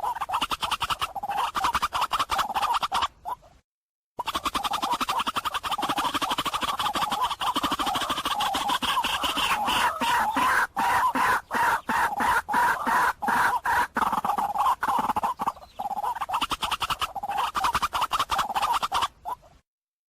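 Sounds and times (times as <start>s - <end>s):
waterhen calling: 0.0s - 3.4s, 4.2s - 19.6s.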